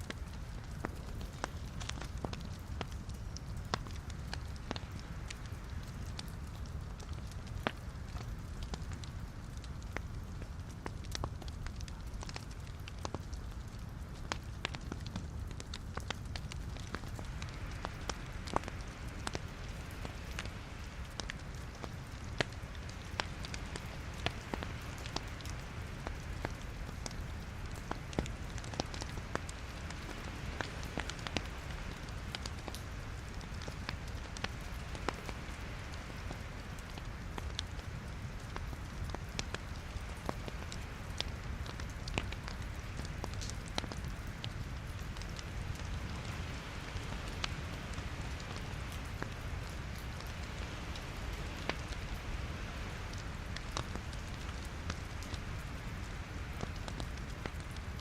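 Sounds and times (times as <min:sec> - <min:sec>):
logs crackling and popping: 0:00.0 - 0:58.0
low rumble of flames: 0:00.0 - 0:58.0.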